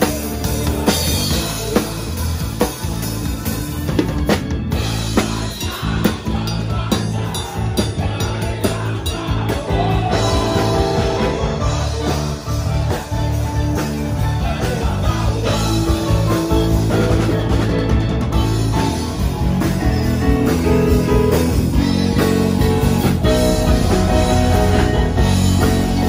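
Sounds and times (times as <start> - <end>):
drum kit: 0.0 - 26.0
electronic keyboards: 0.0 - 26.0.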